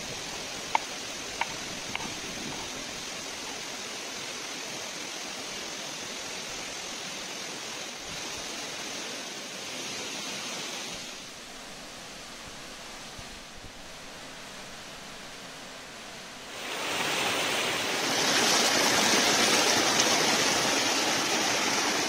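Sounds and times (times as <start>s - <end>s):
waterfall and stream rushing: 0.0s - 22.0s.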